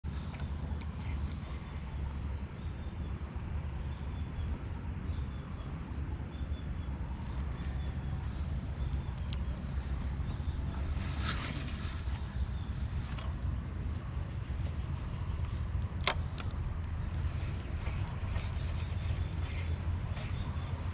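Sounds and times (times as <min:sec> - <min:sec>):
low steady rumble: 0:00.0 - 0:20.9
crickets trilling: 0:00.1 - 0:20.9.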